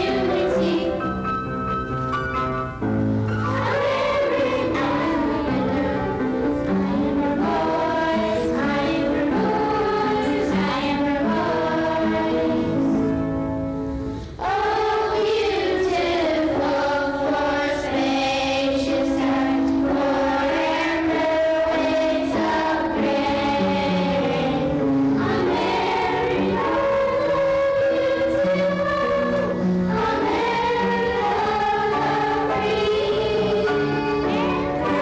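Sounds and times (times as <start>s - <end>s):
children's choir singing: 0.0s - 1.4s, 3.4s - 13.2s, 14.2s - 35.0s.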